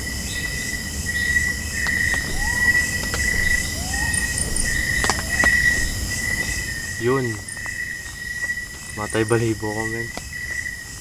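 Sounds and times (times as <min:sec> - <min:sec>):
crickets trilling: 0:00.0 - 0:11.0
faint rising calls: 0:00.0 - 0:11.0.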